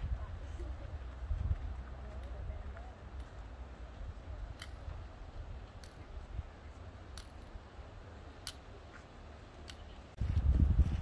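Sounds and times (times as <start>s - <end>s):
footsteps clicking on trail: 0.4s - 7.6s, 8.4s - 11.0s.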